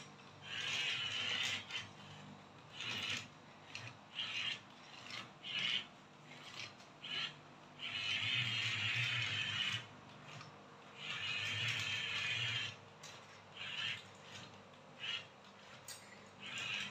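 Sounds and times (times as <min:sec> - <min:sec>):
toy excavator motors whirring: 0:00.0 - 0:16.9.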